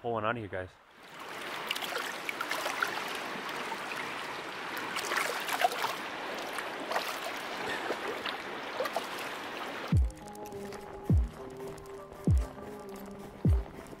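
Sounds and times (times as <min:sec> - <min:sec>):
river water rushing: 0:00.9 - 0:14.0
small splashes and drips: 0:01.2 - 0:13.9.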